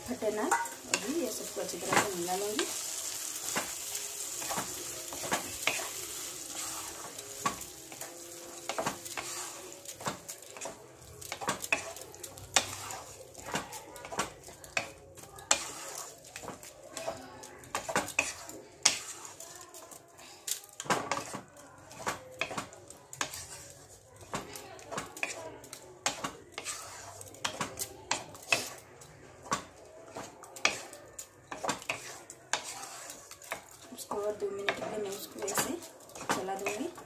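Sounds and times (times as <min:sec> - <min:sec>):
soft sizzle: 0:00.0 - 0:37.0
spatula scraping a pan: 0:00.0 - 0:37.0.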